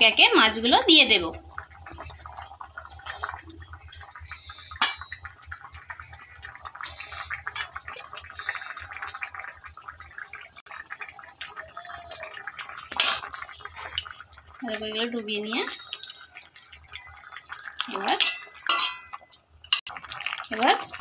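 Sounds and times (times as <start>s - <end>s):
curry gravy bubbling in a pan: 0.0s - 21.0s.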